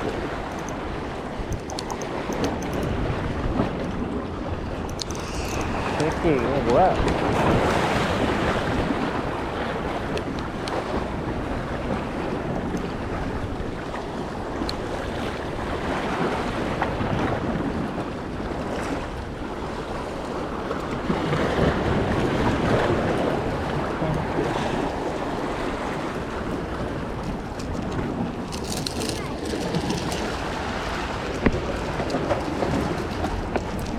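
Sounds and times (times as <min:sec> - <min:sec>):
waves washing against rocks: 0:00.0 - 0:33.9
wind noise on microphone: 0:00.0 - 0:33.9.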